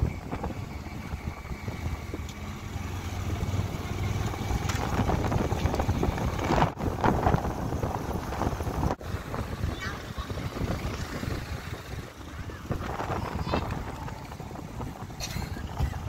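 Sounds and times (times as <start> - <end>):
motorcycle engine drone: 0.0 - 16.0
wind buffeting microphone: 0.0 - 16.0.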